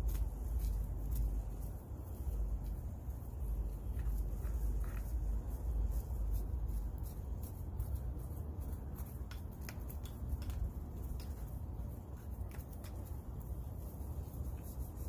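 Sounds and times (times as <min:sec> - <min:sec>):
stick scraping through soil: 0:00.0 - 0:15.0.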